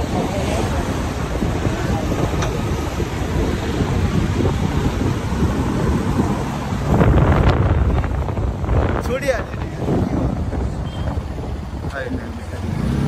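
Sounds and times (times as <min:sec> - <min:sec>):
motorcycle road noise: 0:00.0 - 0:13.0
wind buffeting microphone: 0:00.0 - 0:13.0.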